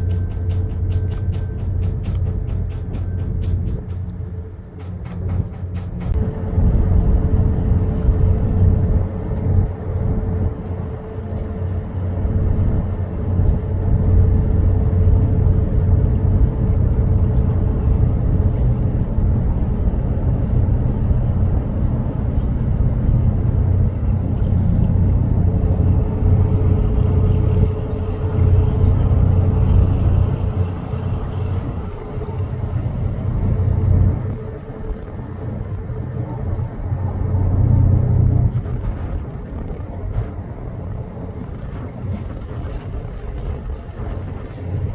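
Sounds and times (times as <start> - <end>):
constant hum: 0.0 - 44.9
low engine rumble: 0.0 - 44.9.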